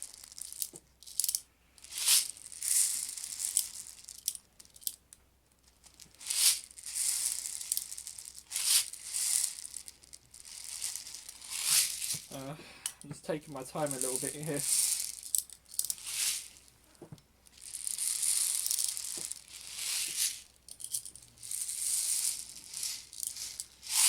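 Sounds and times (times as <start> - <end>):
plastic pellets rattling and clicking: 0.0 - 24.0.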